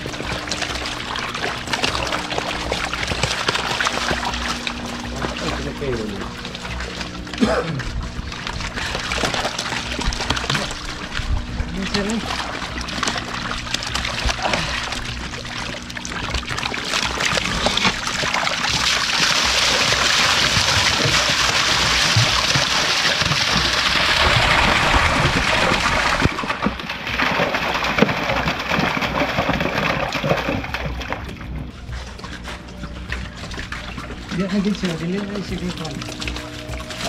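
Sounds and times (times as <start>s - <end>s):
fish and water splashing: 0.0s - 37.0s.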